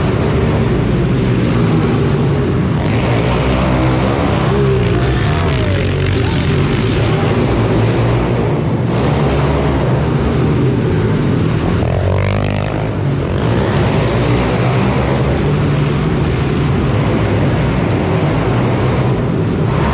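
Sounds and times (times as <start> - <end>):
minibike engines revving: 0.0 - 19.9.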